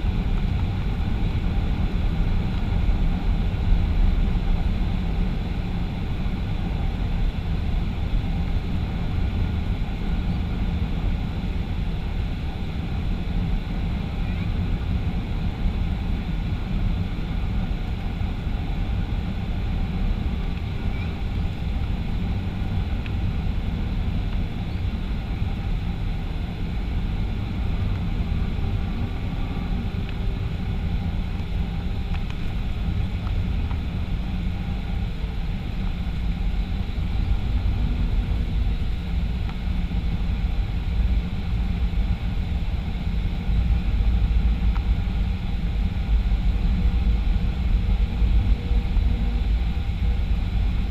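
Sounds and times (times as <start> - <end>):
faint steady tones hum: 0.0 - 50.9
jet engine and airflow rumble: 0.0 - 50.9.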